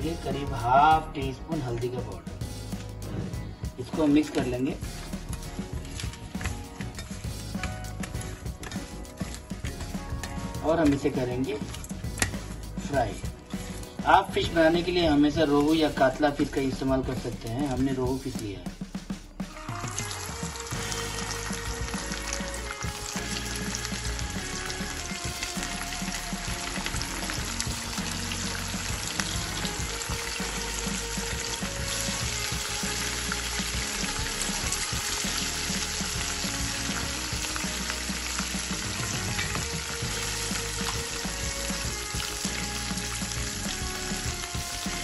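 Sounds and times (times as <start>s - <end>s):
fish deep-frying in oil: 3.7s - 16.9s, 19.5s - 45.0s.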